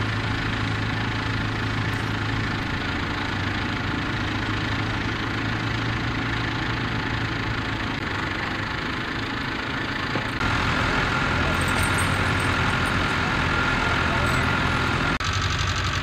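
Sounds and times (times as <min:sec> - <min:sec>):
diesel tractor engines droning: 0:00.0 - 0:16.0.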